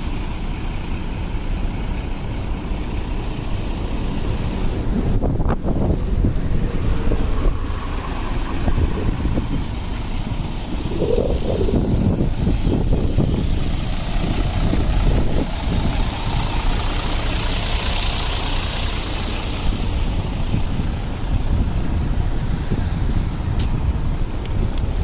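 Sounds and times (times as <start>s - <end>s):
vehicle engines idling and running: 0.0s - 25.0s.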